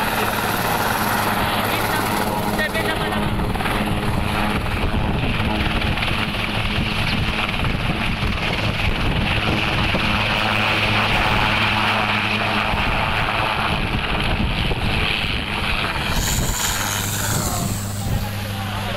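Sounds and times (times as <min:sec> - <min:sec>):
helicopter rotor: 0:00.0 - 0:18.9
turbine whine: 0:00.0 - 0:18.9
wind noise on microphone: 0:00.2 - 0:18.8.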